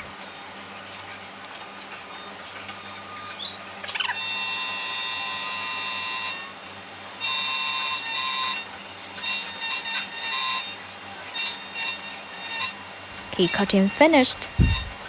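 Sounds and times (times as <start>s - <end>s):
key cutting machine whine: 0.0s - 15.0s.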